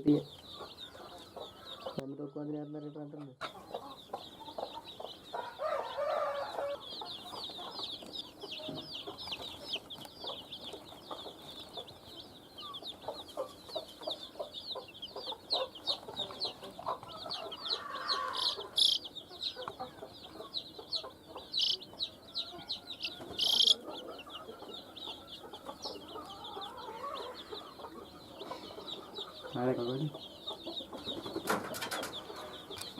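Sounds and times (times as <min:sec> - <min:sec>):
baby chicks peeping: 0:00.0 - 0:32.9.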